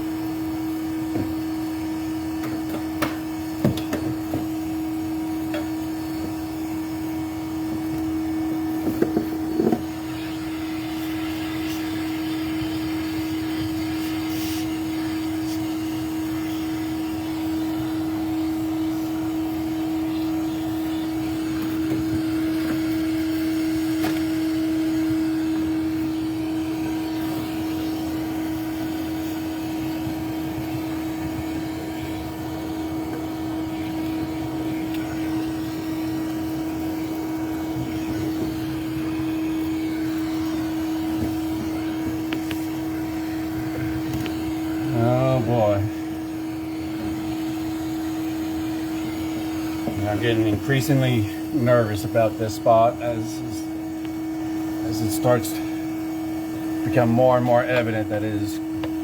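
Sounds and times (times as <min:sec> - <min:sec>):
vacuum motor humming: 0:00.0 - 0:59.0.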